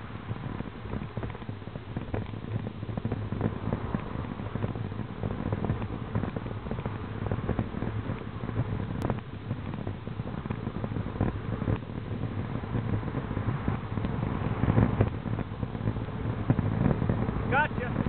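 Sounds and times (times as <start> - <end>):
highway traffic: 0.0 - 18.0
wind buffeting microphone: 0.0 - 18.0.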